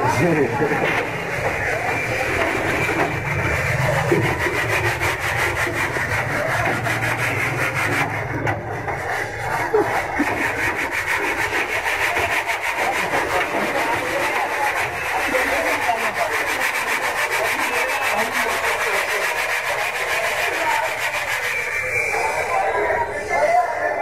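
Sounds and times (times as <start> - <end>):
hand sanding metal bodywork: 0.0 - 22.8.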